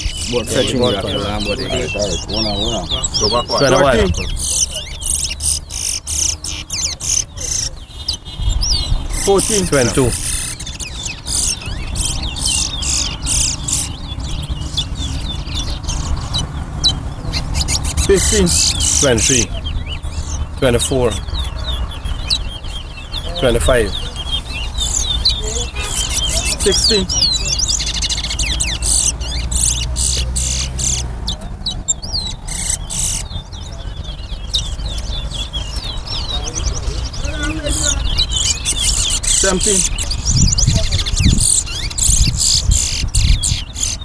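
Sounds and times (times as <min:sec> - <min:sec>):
finches chirping: 0:00.0 - 0:44.0.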